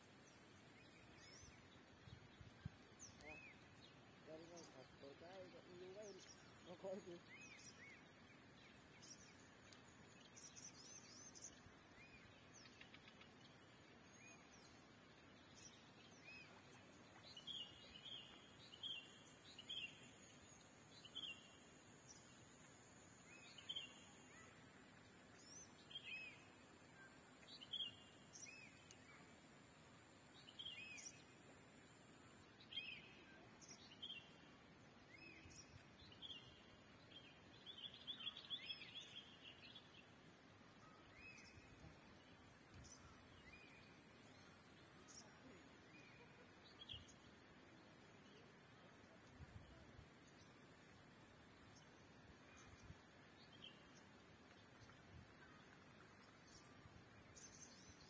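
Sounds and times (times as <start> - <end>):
quiet outdoor hiss: 0.0 - 58.0.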